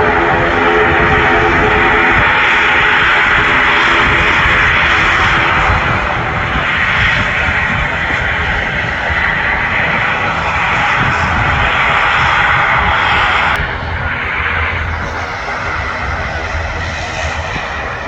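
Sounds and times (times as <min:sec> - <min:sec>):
turboprop engines droning: 0:00.0 - 0:18.0.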